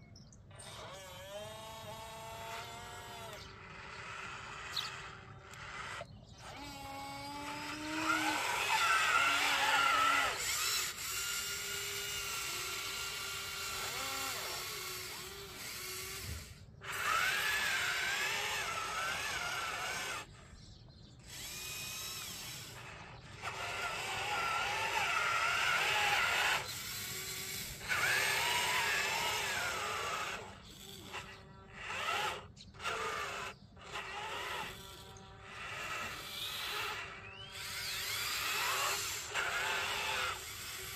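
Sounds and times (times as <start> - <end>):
small electric motors whining: 0.1 - 40.9.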